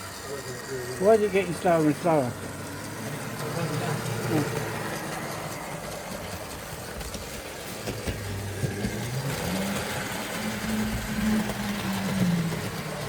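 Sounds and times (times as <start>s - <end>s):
model train motor humming: 0.0s - 13.0s.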